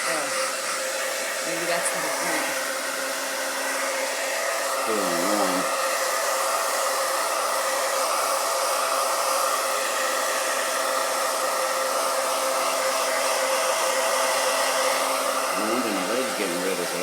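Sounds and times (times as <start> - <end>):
hair dryer blowing air: 0.0 - 17.0.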